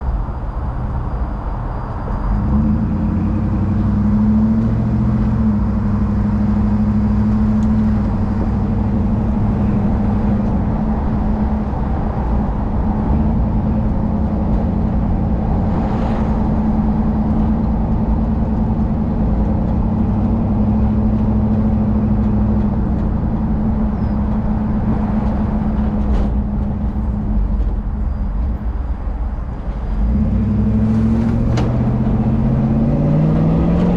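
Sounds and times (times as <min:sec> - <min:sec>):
deep engine exhaust note: 0:02.1 - 0:33.9.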